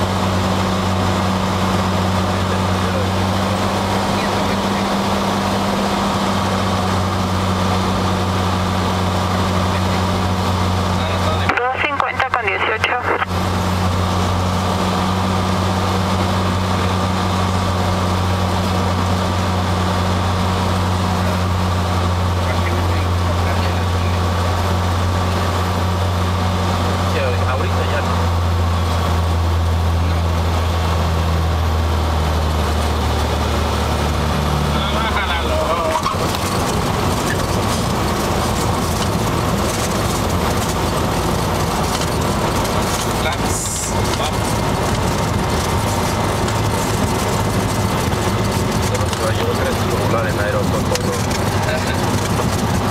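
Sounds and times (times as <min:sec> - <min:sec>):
propeller plane engine drone: 0:00.0 - 0:52.9.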